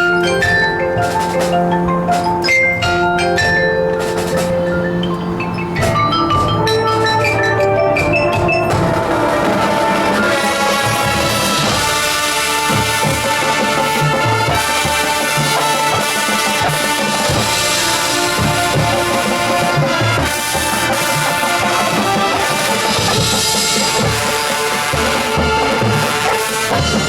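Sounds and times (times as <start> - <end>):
brass chords: 0.0 - 27.0
marching band playing: 0.0 - 27.0.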